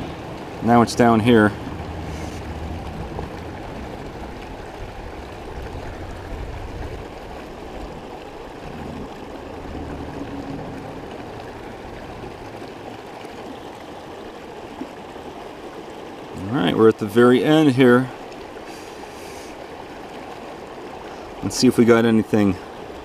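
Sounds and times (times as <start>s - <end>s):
creek running: 0.0s - 23.0s.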